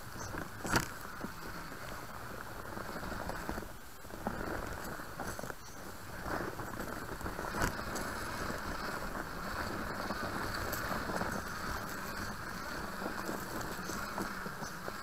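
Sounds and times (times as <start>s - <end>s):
toy truck motor and gears: 0.0s - 15.0s.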